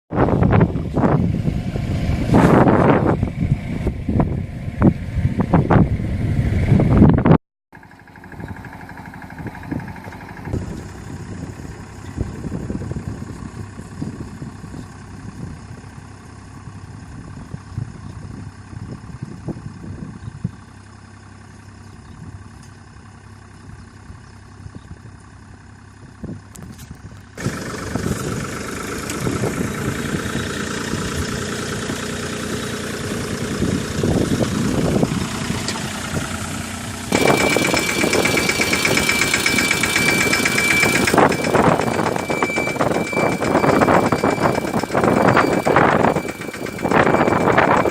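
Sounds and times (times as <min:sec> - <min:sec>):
tractor engine running: 0:00.2 - 0:47.9.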